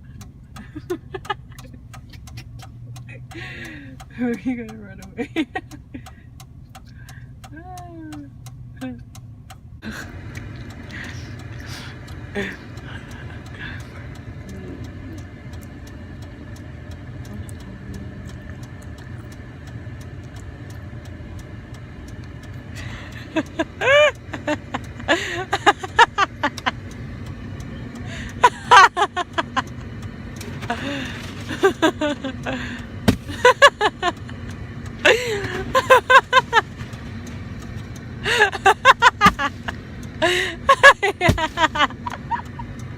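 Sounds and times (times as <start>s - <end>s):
car idling: 0.0s - 42.9s
faint regular ticking: 0.0s - 42.9s.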